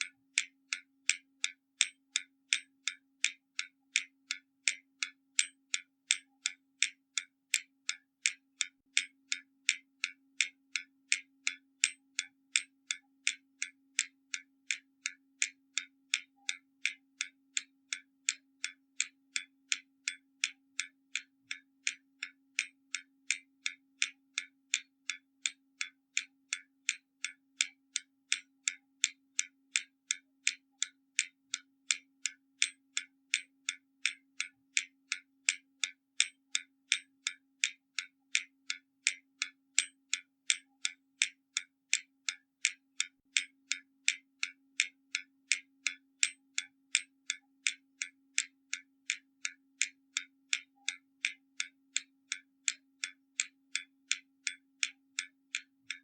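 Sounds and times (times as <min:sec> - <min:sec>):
mechanical clock ticking: 0:00.0 - 0:56.0.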